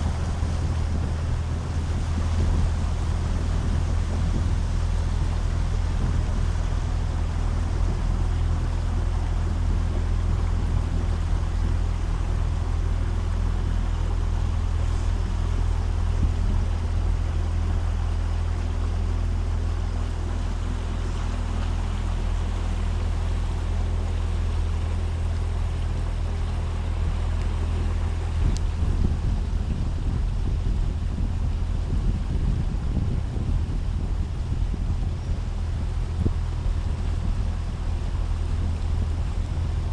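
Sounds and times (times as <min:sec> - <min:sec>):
boat motor running: 0:00.0 - 0:39.9
water and wind noise: 0:00.0 - 0:39.9.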